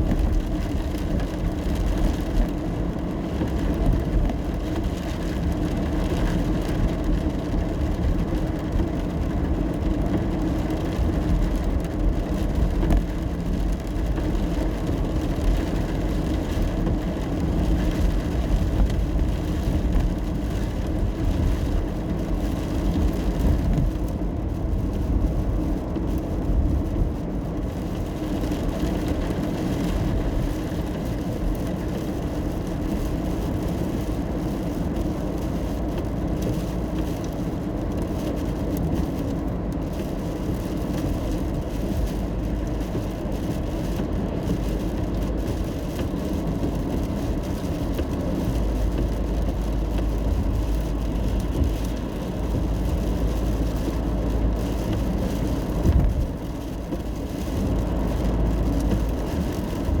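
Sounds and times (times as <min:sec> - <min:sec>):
car road and engine rumble: 0:00.0 - 1:00.0.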